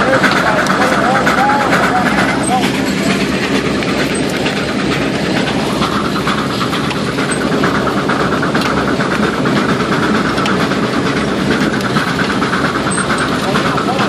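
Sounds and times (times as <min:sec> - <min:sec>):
plow frame rattling: 0:00.0 - 0:14.0
steam engine mechanical running: 0:00.0 - 0:14.0.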